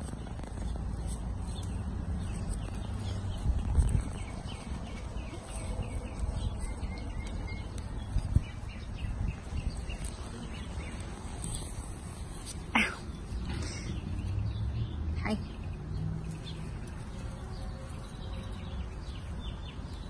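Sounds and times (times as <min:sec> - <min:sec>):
small birds twittering: 0:00.0 - 0:20.0.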